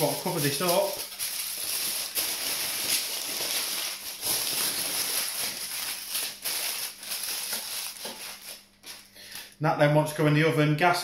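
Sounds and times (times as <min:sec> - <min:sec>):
aluminium foil crinkling: 0:00.0 - 0:09.5.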